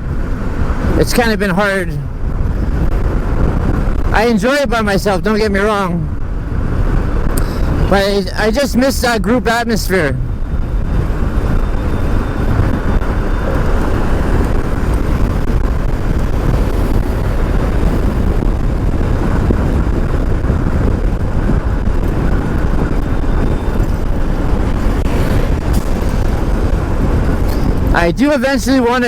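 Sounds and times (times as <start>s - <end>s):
wind rushing on microphone: 0.0s - 29.0s.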